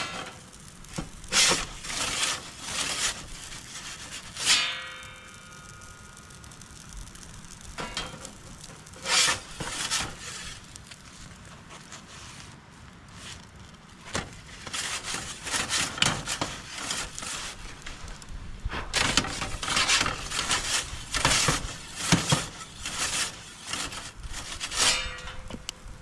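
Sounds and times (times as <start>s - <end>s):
metal peel scraping on stone: 0.0s - 10.8s, 14.1s - 17.8s, 18.8s - 26.0s.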